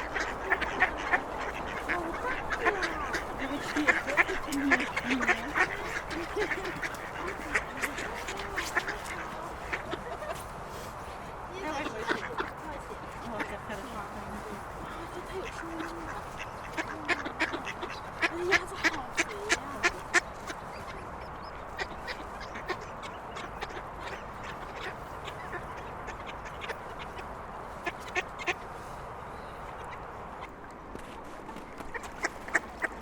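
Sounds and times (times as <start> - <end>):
ducks quacking: 0.0 - 33.0
heavy road traffic hum: 0.0 - 33.0.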